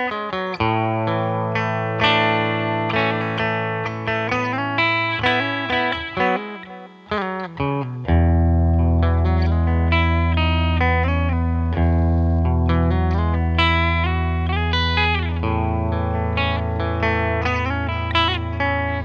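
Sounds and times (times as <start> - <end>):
electric guitar through an amp: 0.0 - 19.0.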